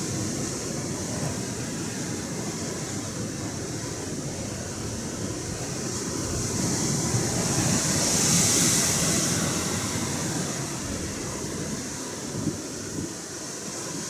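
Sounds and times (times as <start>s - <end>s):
ocean wave rushing in: 0.0s - 14.0s.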